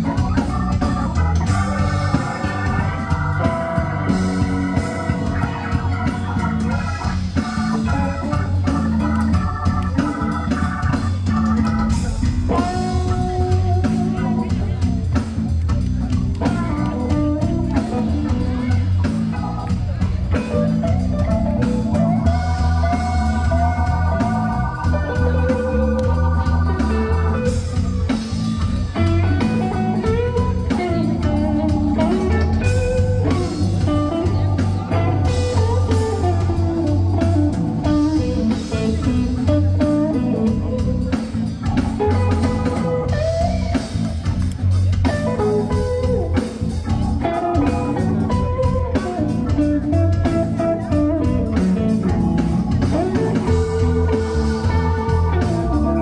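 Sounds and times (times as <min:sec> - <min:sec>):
bass line: 0:00.0 - 0:56.0
electric guitar lead lines: 0:00.0 - 0:56.0
steady beat: 0:00.0 - 0:56.0.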